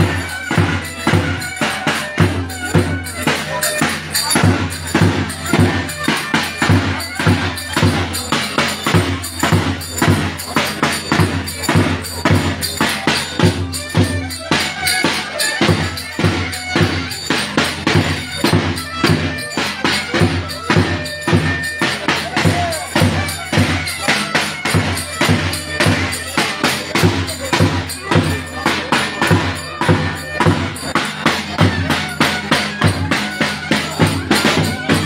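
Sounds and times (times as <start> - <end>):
fast drum beat: 0.0 - 35.0
lively folk dance music: 0.0 - 35.0.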